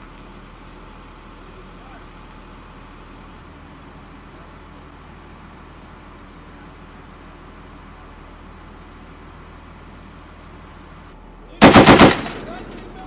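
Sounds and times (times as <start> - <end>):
armoured vehicle engine idling: 0.0 - 13.0.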